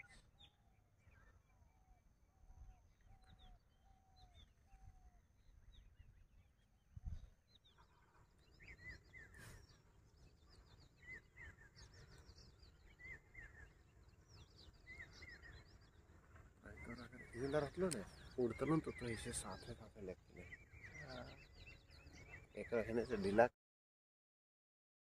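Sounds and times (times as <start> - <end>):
small birds chirping and twittering: 0.0 - 23.5.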